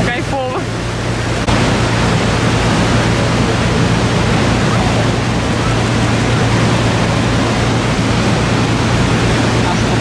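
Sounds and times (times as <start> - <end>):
low hum: 0.0 - 10.0
waterfall roaring: 0.0 - 10.0.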